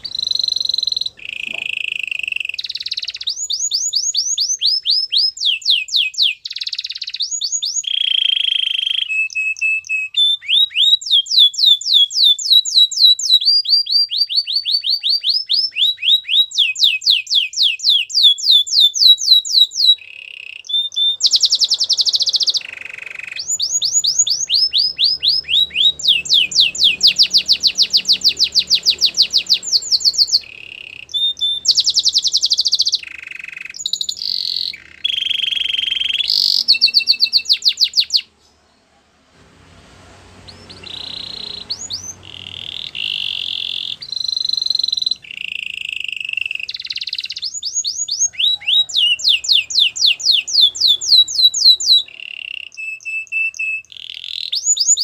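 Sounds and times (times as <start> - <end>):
canary singing trills: 0.0 - 38.9, 40.3 - 55.0.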